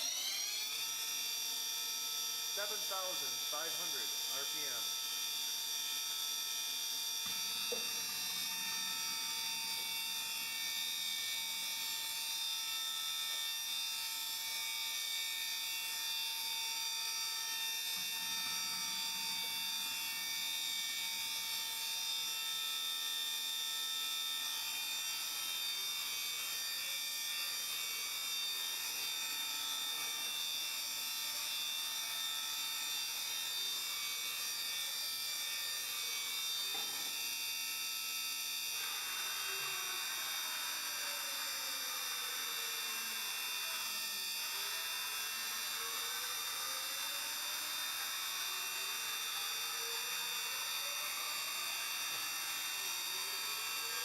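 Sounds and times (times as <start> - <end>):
mill spindle high-pitched whine: 0.0 - 54.0.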